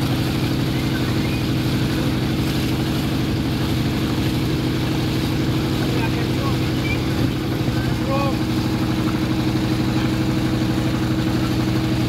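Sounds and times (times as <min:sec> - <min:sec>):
engine droning steadily: 0:00.0 - 0:12.0.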